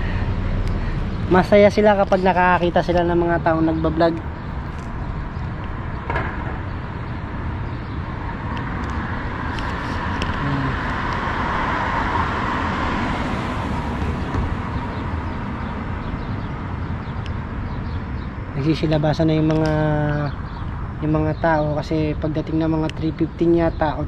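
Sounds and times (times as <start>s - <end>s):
car passing: 0.0s - 19.4s
steady low rumble: 0.0s - 24.0s.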